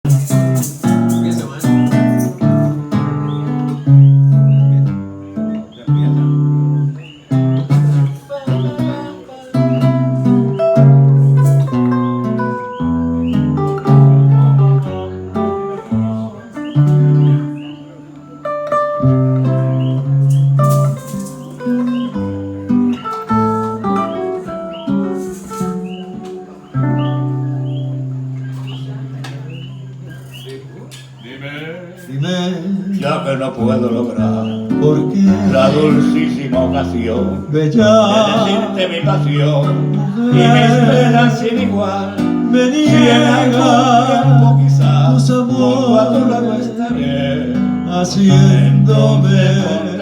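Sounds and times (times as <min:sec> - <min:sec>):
acoustic guitar picking and strumming: 0:00.0 - 0:50.0.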